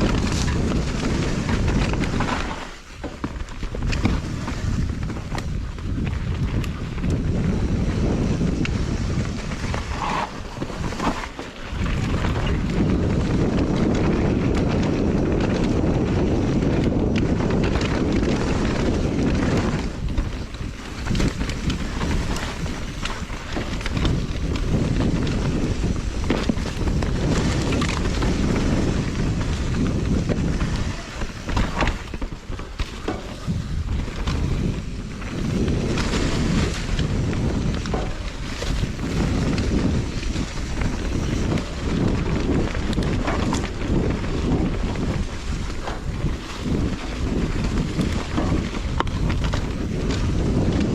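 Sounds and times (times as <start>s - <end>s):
bike rattling knocks: 0.0s - 50.9s
tyre noise on dirt: 0.0s - 50.9s
wind rushing over microphone: 0.0s - 50.9s.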